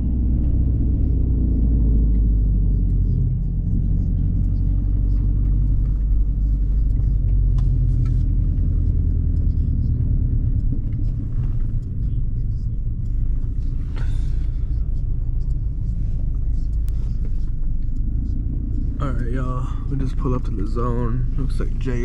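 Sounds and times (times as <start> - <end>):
car engine rumbling: 0.0 - 22.0
road noise: 0.0 - 22.0.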